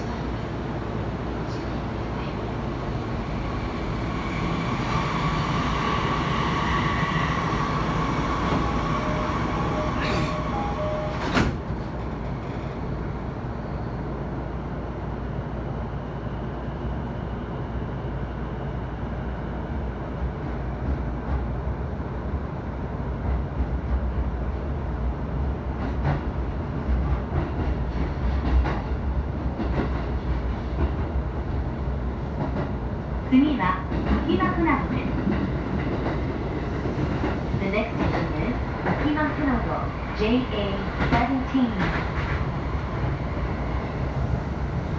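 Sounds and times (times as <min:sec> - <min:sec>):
train car low rumble: 0:00.0 - 0:44.9.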